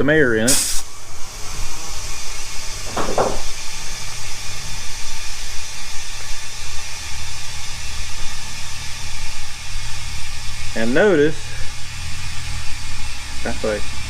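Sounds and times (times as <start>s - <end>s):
compressed air hissing into tire: 0.2s - 14.0s.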